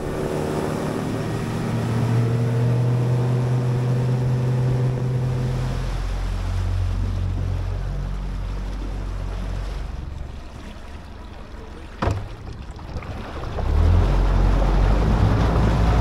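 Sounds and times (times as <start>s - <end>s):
outboard motor running: 0.0s - 16.0s
wind and water rushing: 0.0s - 16.0s.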